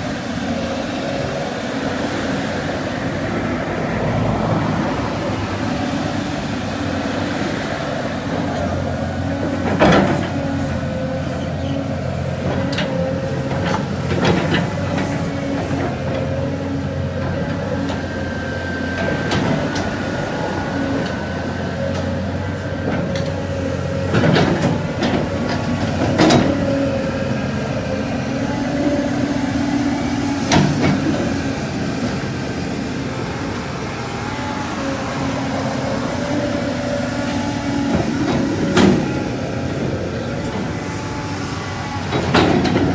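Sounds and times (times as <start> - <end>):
diesel excavator engine running: 0.0 - 42.9.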